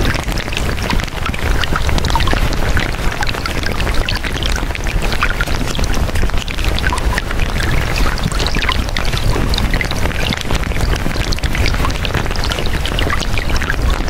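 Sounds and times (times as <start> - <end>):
garbled chirps and blips: 0.0 - 14.0.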